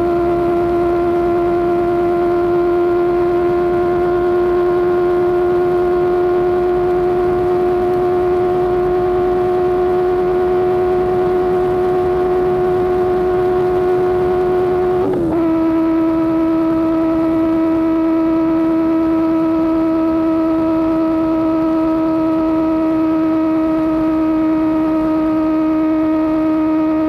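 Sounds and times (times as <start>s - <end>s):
motorcycle engine at high revs: 0.0s - 27.0s.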